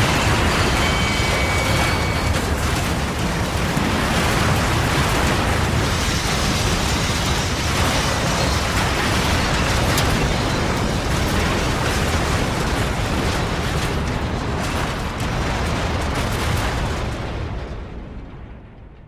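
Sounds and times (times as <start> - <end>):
train crashing din: 0.0 - 19.0.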